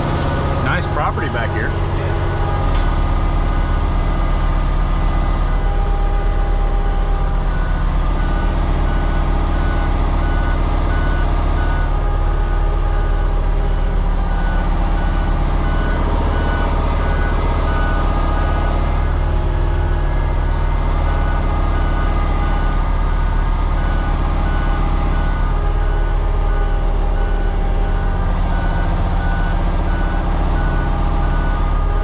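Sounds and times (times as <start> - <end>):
diesel engine under load: 0.0 - 32.0
faint reverse alarm beeping: 0.1 - 32.0.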